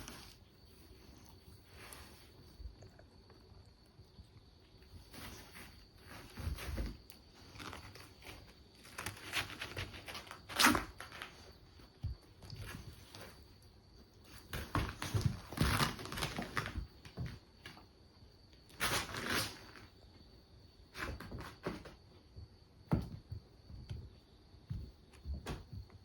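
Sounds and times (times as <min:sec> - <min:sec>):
rustling and scuffling of animals playing: 0:00.0 - 0:26.0.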